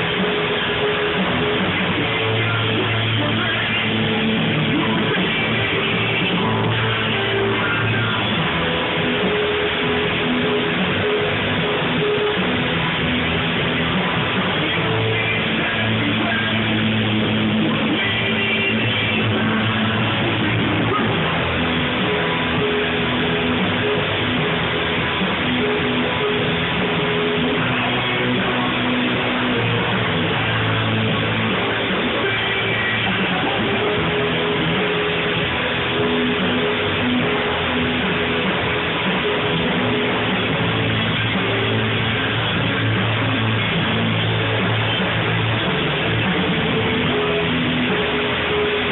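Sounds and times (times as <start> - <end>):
held bass notes: 0.0 - 48.9
rock band with electric guitar: 0.0 - 48.9.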